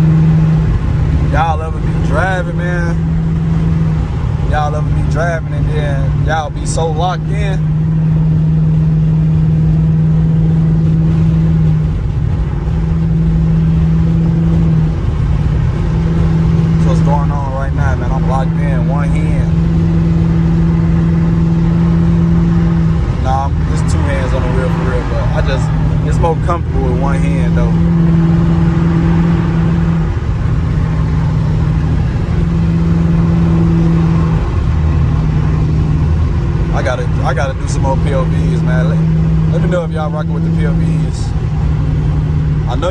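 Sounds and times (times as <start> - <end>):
car exhaust droning: 0.0 - 42.9.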